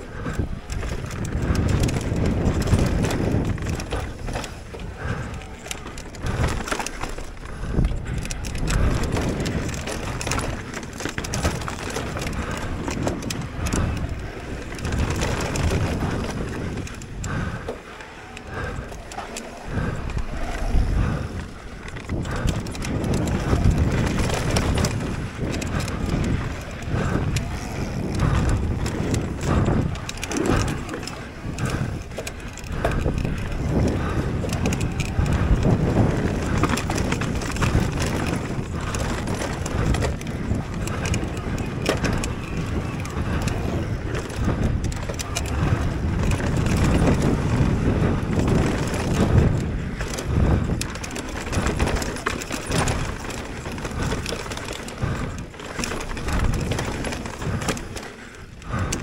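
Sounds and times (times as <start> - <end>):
bike clattering over bumps: 0.0 - 59.0
bike tyres rumbling on dirt: 0.0 - 59.0
wind on microphone: 0.0 - 59.0.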